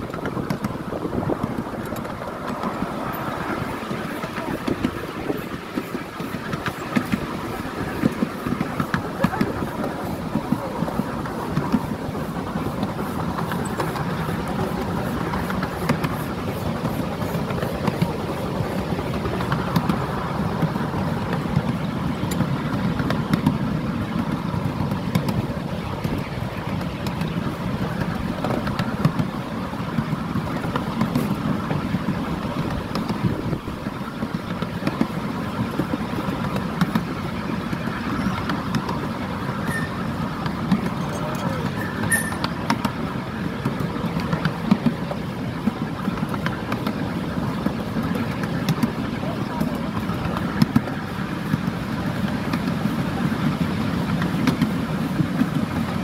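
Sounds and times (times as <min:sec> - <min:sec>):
miniature steam train running: 0:00.0 - 0:56.0.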